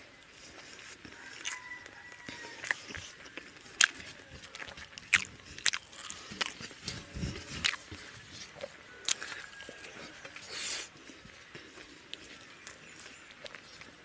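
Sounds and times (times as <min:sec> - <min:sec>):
wet chewing smacks: 0:00.1 - 0:14.0.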